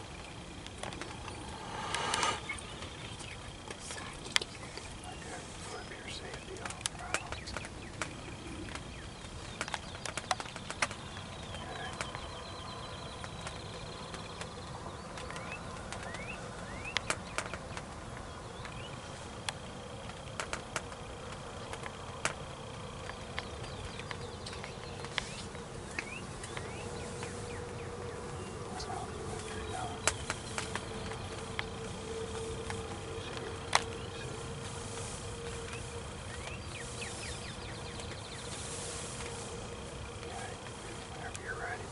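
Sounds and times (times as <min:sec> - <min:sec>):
distant songbirds calling: 0:00.0 - 0:41.9
faint outdoor hum: 0:00.0 - 0:41.9.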